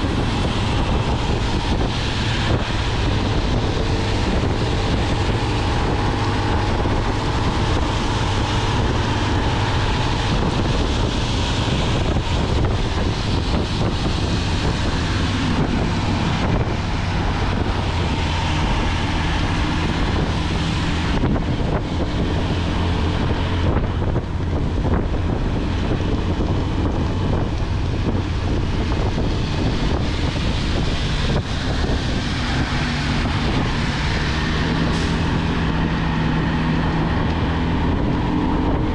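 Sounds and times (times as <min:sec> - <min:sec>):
tyre noise on wet road: 0:00.0 - 0:38.9
wind rush on microphone: 0:00.0 - 0:38.9.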